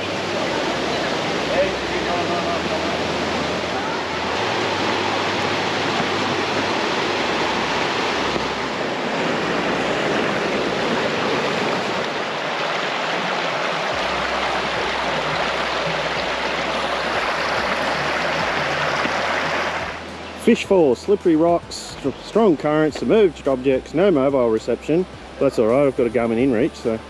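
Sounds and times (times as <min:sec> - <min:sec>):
water rushing: 0:00.0 - 0:27.0.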